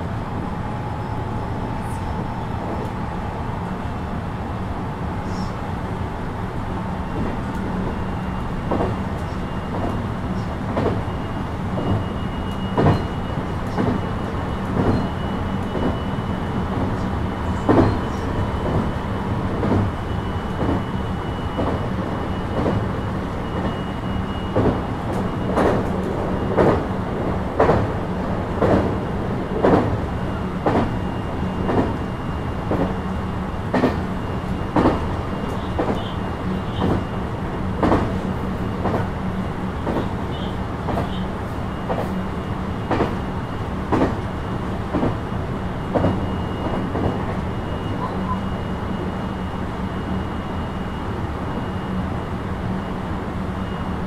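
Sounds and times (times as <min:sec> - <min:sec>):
train running gear rumble: 0:00.0 - 0:54.0.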